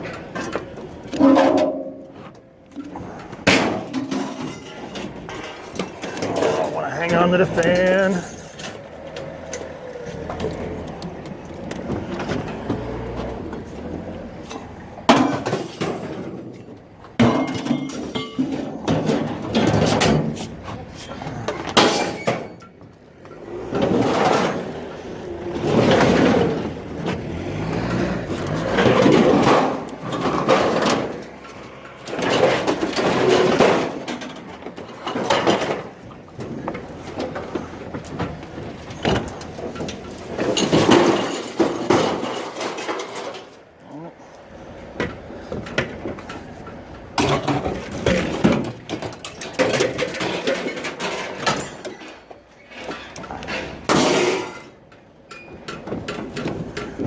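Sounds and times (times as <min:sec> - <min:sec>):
scrap metal crashing onto pile: 0:00.0 - 0:10.9, 0:11.9 - 0:22.8, 0:23.4 - 0:43.7, 0:45.5 - 0:54.9.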